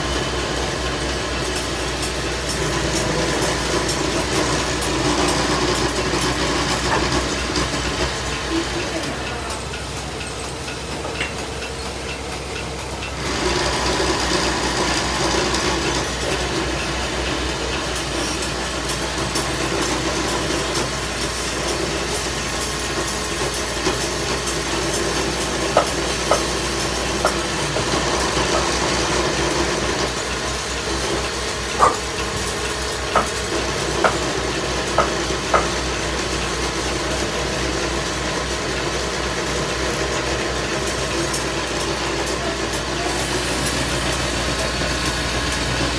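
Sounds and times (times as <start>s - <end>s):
wood lathe running: 0.0s - 10.4s, 13.1s - 45.9s.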